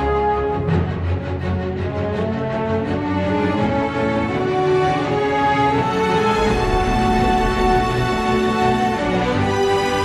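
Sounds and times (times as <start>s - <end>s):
sustained instrumental theme music: 0.0s - 10.0s.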